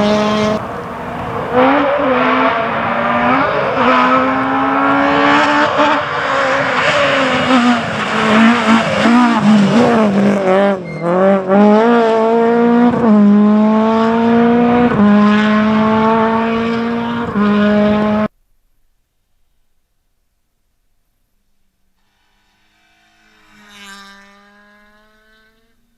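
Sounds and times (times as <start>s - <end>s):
rally car engine revving: 0.0s - 18.3s, 22.7s - 25.9s.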